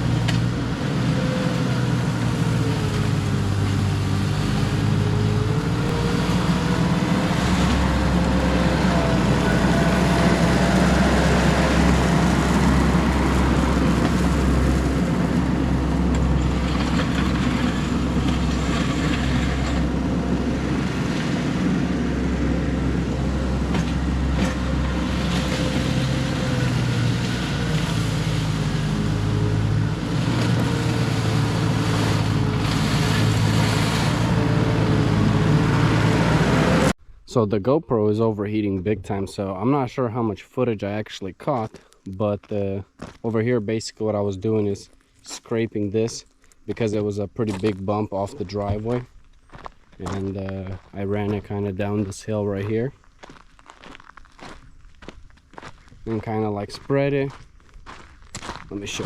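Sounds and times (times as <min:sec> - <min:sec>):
skid steer engine under load: 0:00.0 - 0:37.0, 0:44.1 - 0:59.0.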